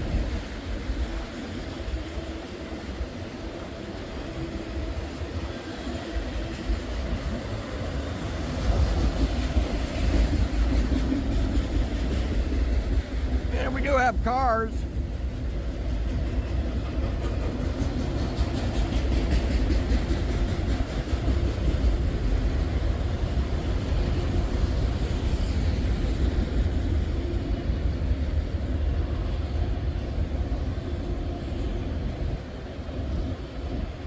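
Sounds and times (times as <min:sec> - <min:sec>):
freight train cars rolling: 0:00.0 - 0:34.0
wheels rumbling on rails: 0:00.0 - 0:34.0.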